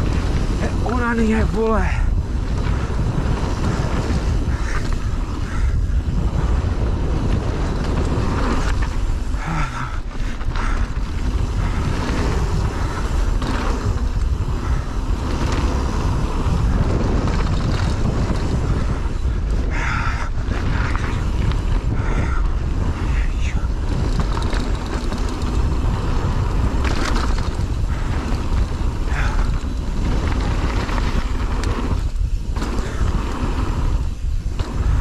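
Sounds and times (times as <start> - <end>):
bike knocks and rattles: 0.0 - 35.0
tyre noise on dirt: 0.0 - 35.0
wind rushing over microphone: 0.0 - 35.0.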